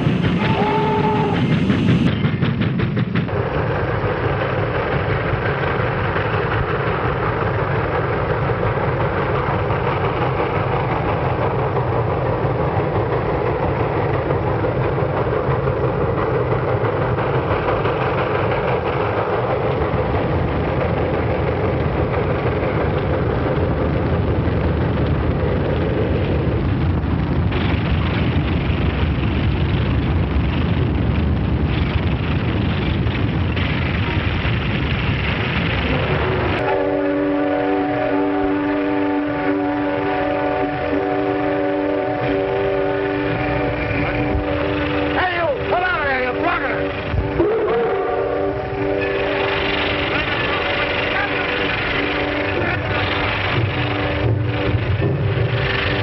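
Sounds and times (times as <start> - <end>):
steam train rumbling and clattering: 0.0 - 56.0.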